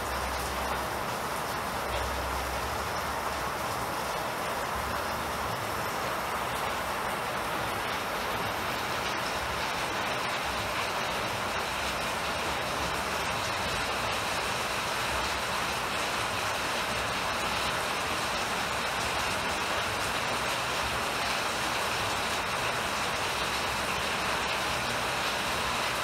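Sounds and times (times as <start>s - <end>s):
heavy rain on a rooftop: 0.0s - 26.0s.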